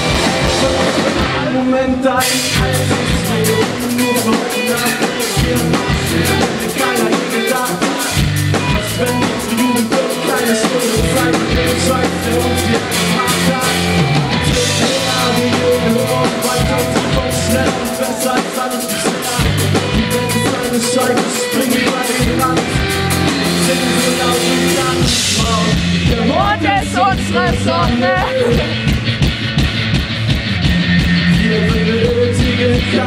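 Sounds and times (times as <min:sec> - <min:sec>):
person singing: 0:00.0 - 0:28.8
rock band playing live: 0:00.0 - 0:33.0.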